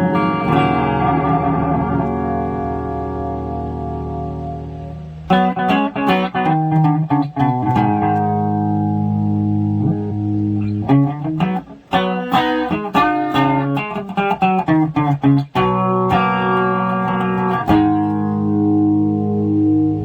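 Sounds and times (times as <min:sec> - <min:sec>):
amplified plucked bass strings: 0:00.0 - 0:20.0.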